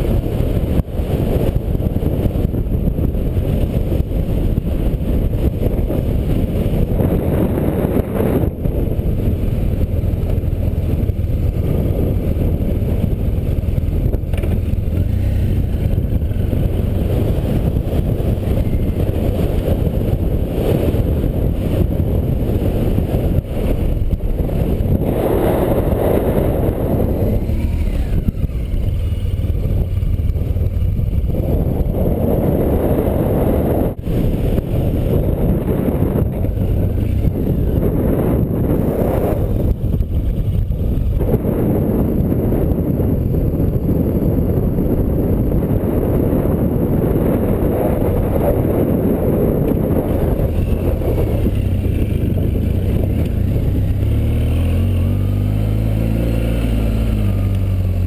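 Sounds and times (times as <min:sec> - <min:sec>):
motorcycle engine running: 0:00.0 - 0:58.0
wind on microphone: 0:00.0 - 0:58.0.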